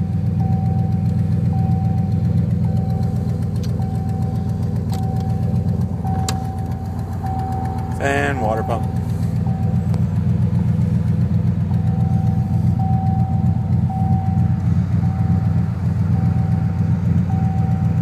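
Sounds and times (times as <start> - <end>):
car engine idling: 0.0 - 18.0
faint high beep: 0.4 - 9.8, 11.8 - 18.0.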